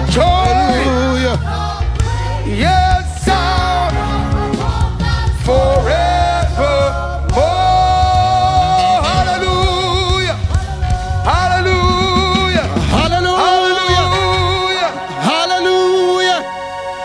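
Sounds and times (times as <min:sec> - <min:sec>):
band with heavy bass: 0:00.0 - 0:16.5
person singing gospel: 0:00.0 - 0:17.0.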